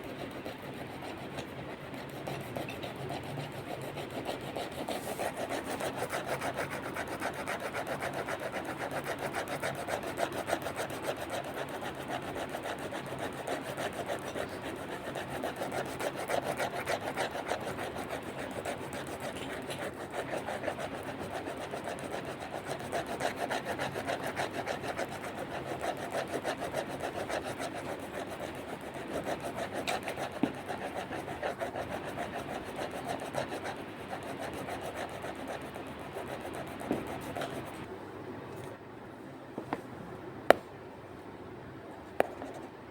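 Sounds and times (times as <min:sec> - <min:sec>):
pencil scratching on paper: 0:00.0 - 0:37.9.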